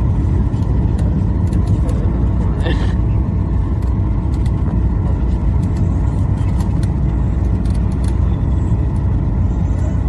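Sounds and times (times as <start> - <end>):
jet cabin engine rumble: 0.0 - 10.0.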